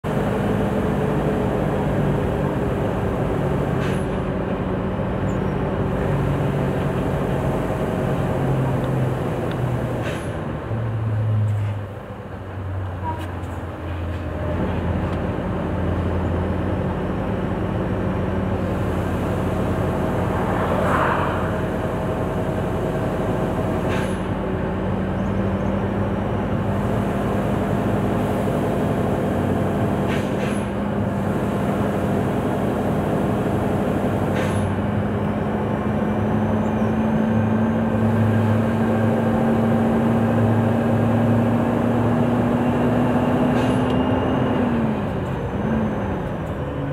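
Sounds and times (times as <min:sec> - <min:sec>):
diesel truck engine droning: 0:00.0 - 0:46.9.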